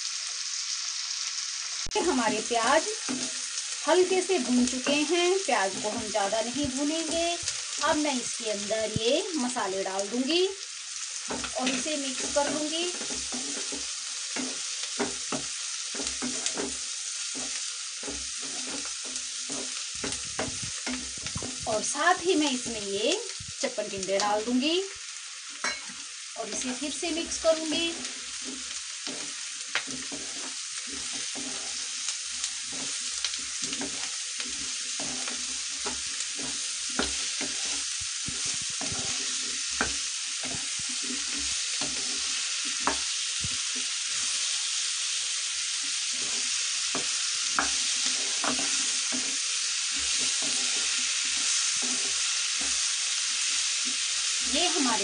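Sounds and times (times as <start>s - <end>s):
vegetables sizzling in hot oil: 0.0s - 55.0s
spatula scraping and tapping pan: 2.1s - 8.3s, 11.2s - 23.6s, 25.5s - 44.5s, 45.8s - 55.0s.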